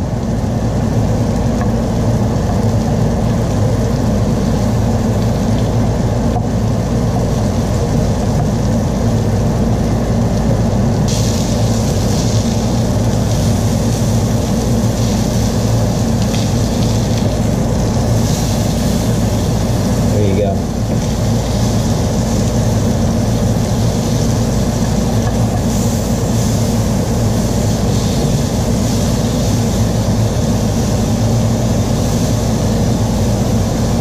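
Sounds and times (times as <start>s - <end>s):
fish sizzling in a frying pan: 0.0s - 34.0s
range hood fan humming: 0.0s - 34.0s.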